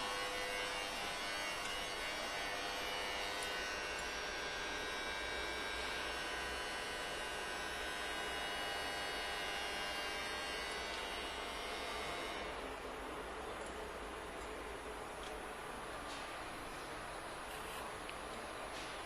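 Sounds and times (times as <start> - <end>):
machining center humming and whining: 0.0 - 19.0.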